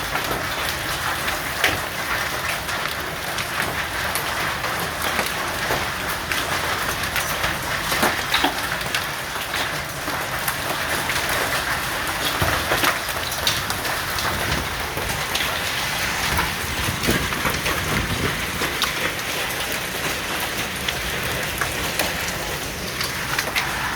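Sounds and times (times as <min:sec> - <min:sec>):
heavy rain beating down: 0:00.0 - 0:23.9
sharp ticks of raindrops: 0:00.0 - 0:23.9.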